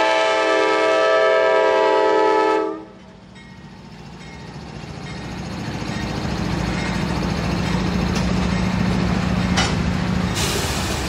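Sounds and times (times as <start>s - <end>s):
wheels rushing on rails: 0.0s - 11.0s
locomotive engine drone: 1.4s - 11.0s.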